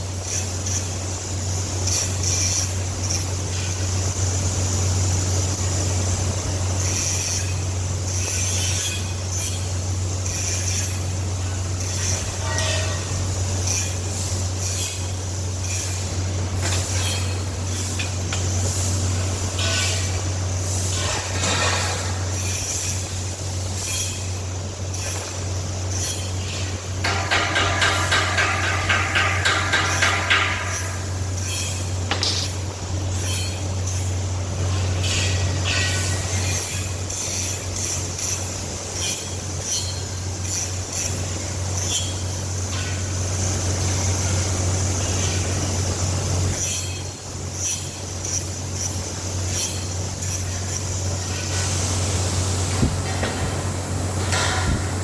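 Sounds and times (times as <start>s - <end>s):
hiss and clatter bursts: 0.0s - 55.0s
machinery humming: 0.0s - 55.0s.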